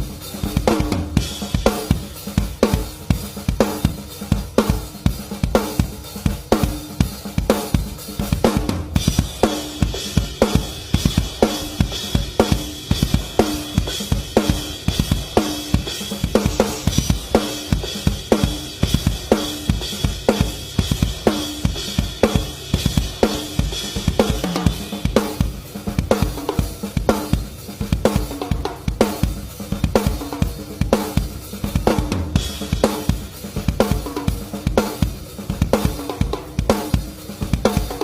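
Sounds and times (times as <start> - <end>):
drum kit playing fast beat: 0.0 - 38.0.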